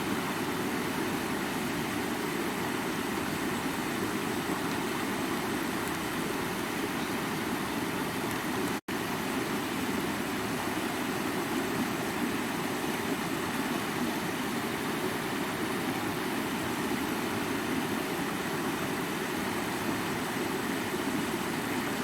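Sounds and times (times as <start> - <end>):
stream water rushing over rocks: 0.0 - 22.0.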